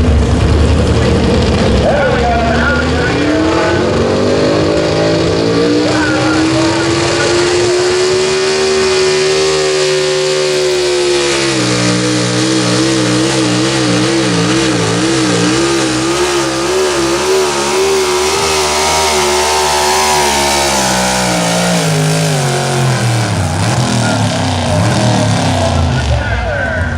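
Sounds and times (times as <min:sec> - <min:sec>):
truck engine revving high: 0:00.0 - 0:26.9.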